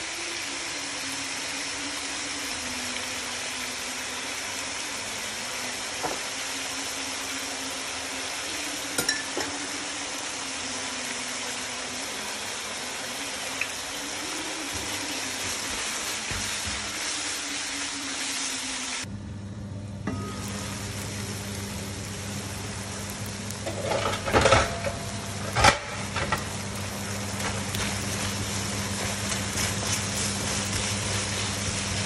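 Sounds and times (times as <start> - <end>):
chicken sizzling in a frying pan: 0.0 - 19.1, 20.1 - 32.0.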